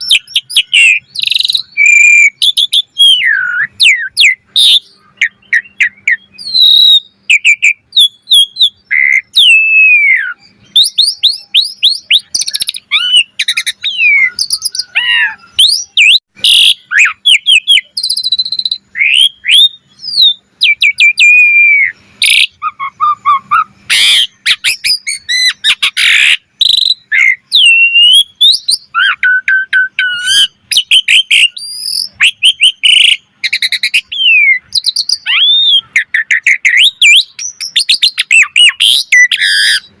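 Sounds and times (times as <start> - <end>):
starling singing: 0.0 - 40.0.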